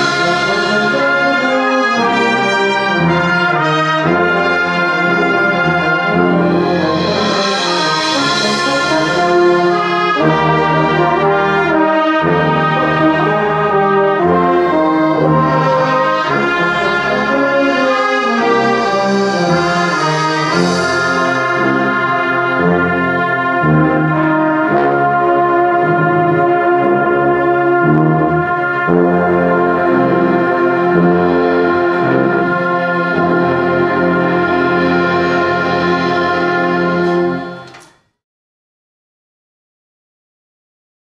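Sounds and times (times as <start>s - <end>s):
brass band playing a hymn: 0.0s - 37.9s.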